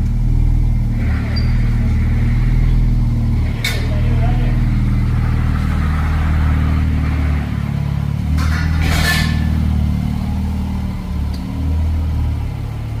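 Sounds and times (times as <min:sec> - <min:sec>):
pickup truck engine exhaust: 0:00.0 - 0:13.0.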